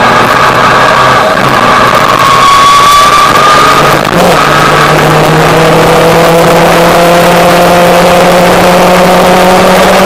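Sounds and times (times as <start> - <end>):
motorcycle engine revving: 0.0 - 10.0
wind and road noise: 0.0 - 10.0.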